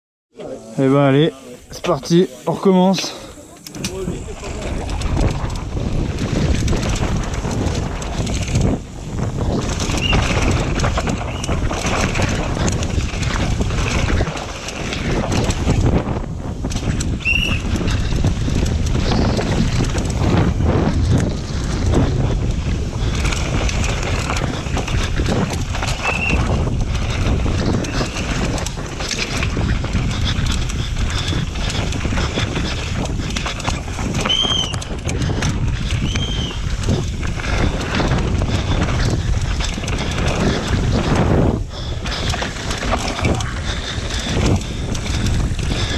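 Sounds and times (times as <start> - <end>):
tyres on dirt: 0.4 - 45.9
wind rushing over microphone: 0.8 - 45.9
bike rattling over bumps: 1.7 - 45.9.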